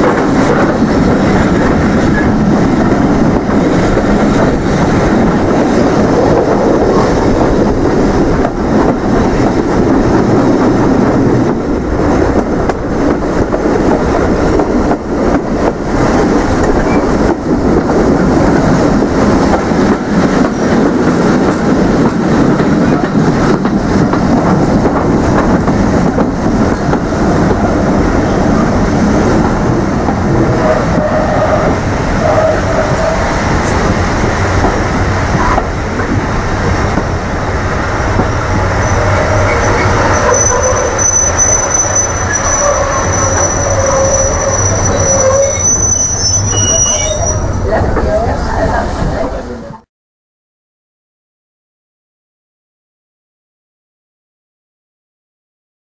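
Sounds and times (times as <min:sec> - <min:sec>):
train rumbling along track: 0:00.0 - 0:49.9.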